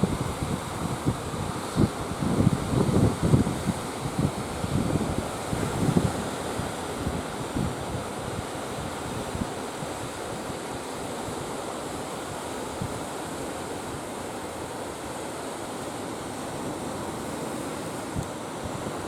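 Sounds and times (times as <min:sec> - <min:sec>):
wind gusting on microphone: 0:00.0 - 0:13.2, 0:16.2 - 0:19.0
sea surf rushing: 0:00.0 - 0:19.0.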